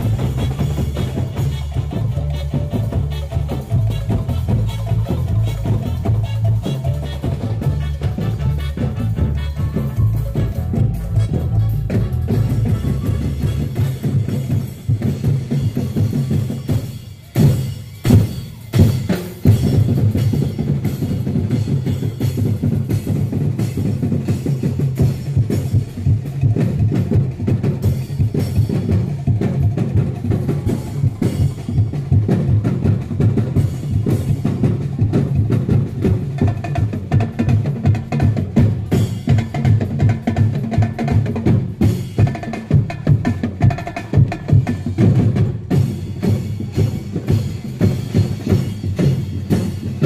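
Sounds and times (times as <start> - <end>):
drum-driven dance music: 0.0 - 50.0.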